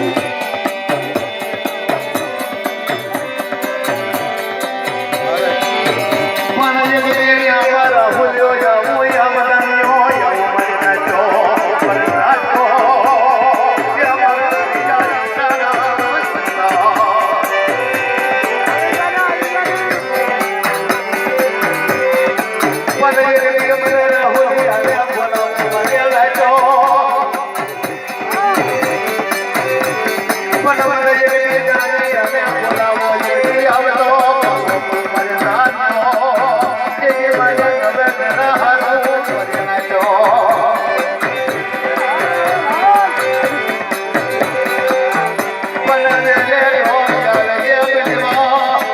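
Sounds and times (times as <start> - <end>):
rattling percussion: 0.0 - 48.9
steady drum beat: 0.0 - 48.9
wavering melody line: 0.0 - 48.9.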